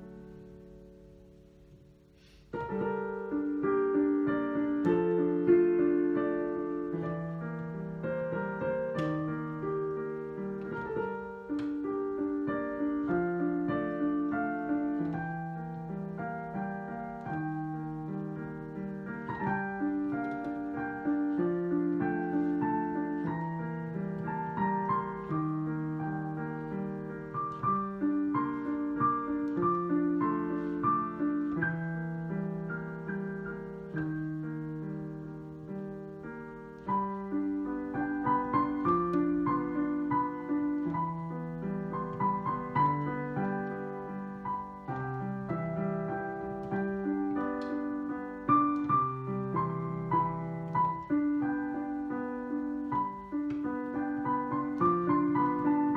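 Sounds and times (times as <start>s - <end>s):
solo piano playing: 0.0s - 55.9s.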